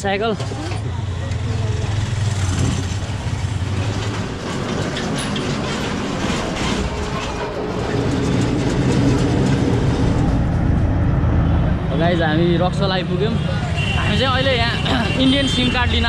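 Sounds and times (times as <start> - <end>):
vehicle rumbling and rattling: 0.0 - 16.0.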